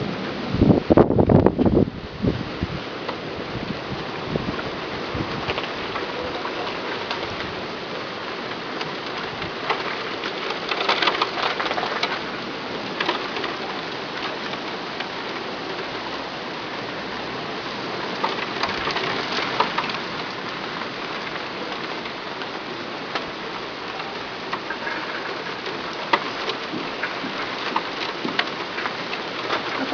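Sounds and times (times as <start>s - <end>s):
heavy rain pouring: 0.0s - 29.9s
raindrops ticking on surfaces: 0.0s - 29.9s.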